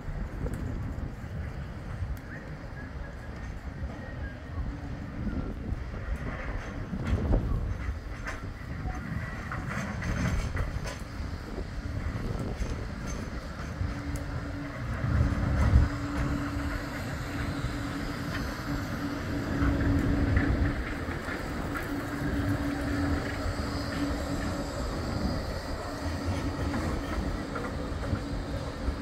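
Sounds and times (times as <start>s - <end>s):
tram wheels rumbling: 0.0s - 29.0s.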